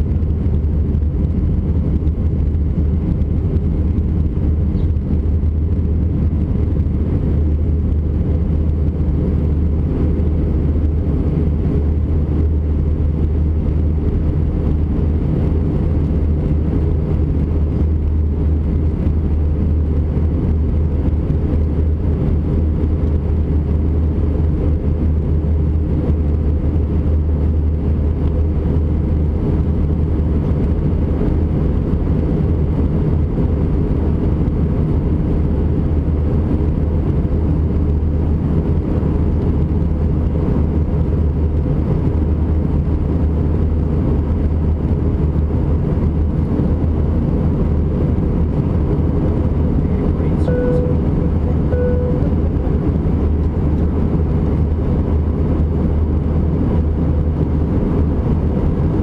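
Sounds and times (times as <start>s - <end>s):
aircraft cabin drone: 0.0s - 59.0s.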